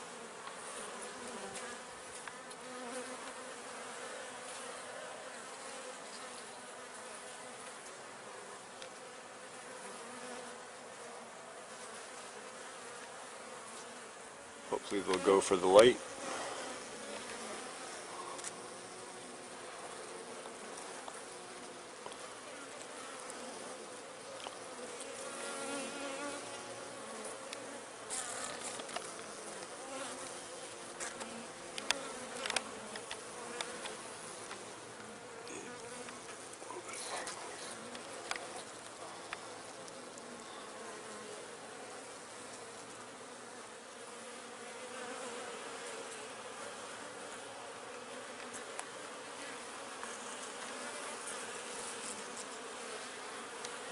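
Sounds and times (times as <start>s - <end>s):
honeybee colony buzzing: 0.0s - 53.9s.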